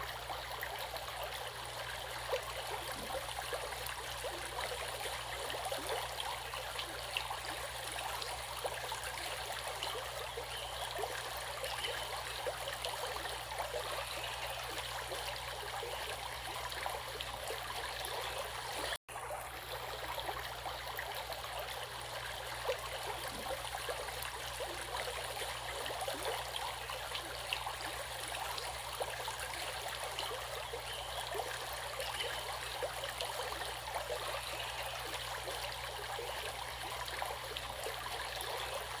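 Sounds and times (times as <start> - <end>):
stream water babbling: 0.0 - 39.0.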